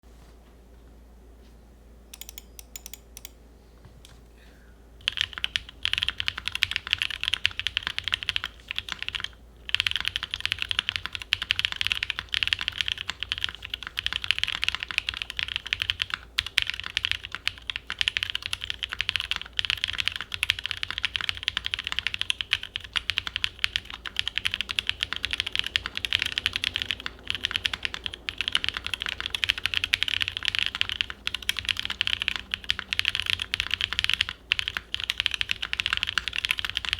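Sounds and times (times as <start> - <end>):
fast typing on mechanical keyboard: 5.0 - 36.9.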